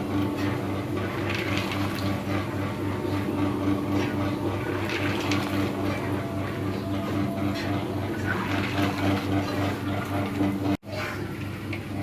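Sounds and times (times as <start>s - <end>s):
oil bubbling and crackling: 0.0s - 12.0s
pulsing motor hum: 0.0s - 12.0s.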